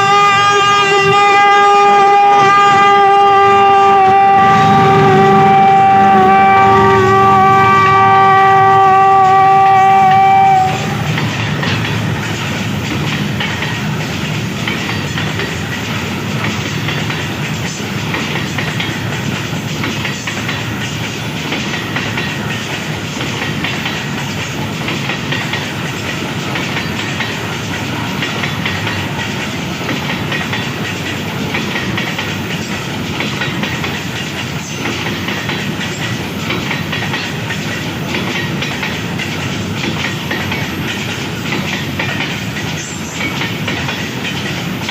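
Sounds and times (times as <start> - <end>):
freight train rolling: 0.0 - 44.9
wheels clattering over rail joints: 8.2 - 44.9.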